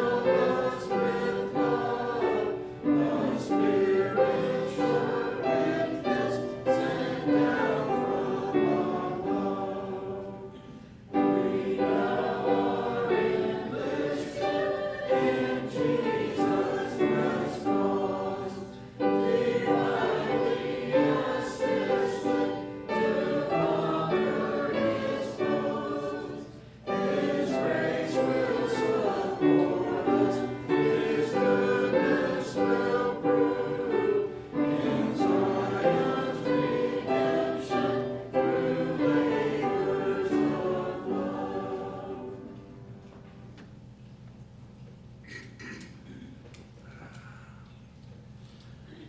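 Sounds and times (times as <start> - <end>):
congregation singing a hymn: 0.0 - 43.7.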